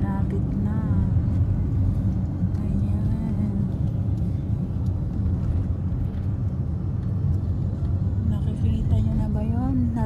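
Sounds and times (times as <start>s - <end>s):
vehicle engine and tyre noise: 0.0s - 10.0s.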